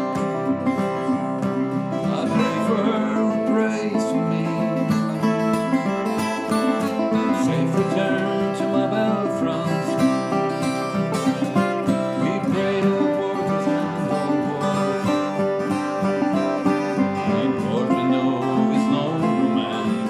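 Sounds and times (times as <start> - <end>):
acoustic guitar strumming: 0.0 - 20.0
resonator guitar: 0.0 - 20.0.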